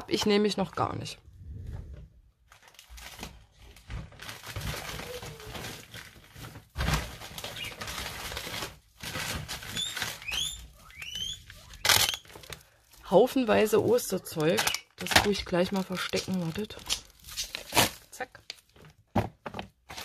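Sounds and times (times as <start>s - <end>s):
plastic packaging rustling: 2.4s - 20.0s.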